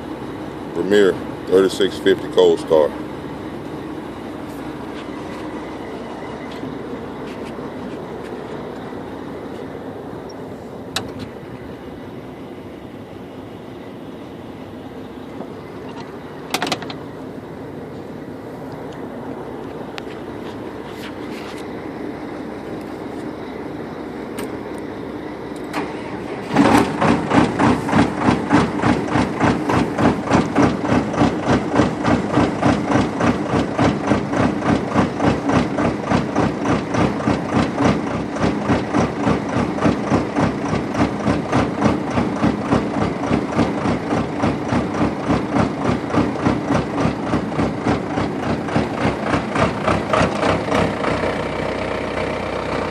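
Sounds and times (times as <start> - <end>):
diesel engine starting and idling: 0.0 - 52.9.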